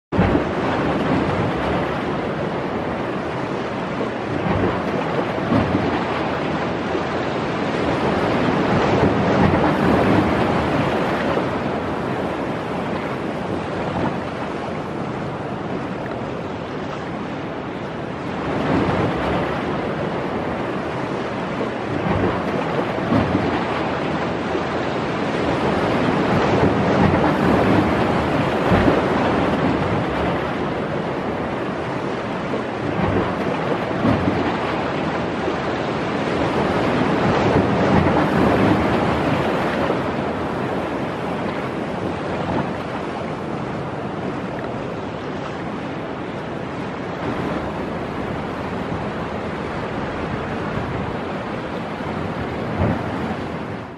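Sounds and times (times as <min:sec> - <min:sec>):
surf washing against rocks: 0:00.1 - 0:53.9
wind buffeting microphone: 0:00.1 - 0:53.9.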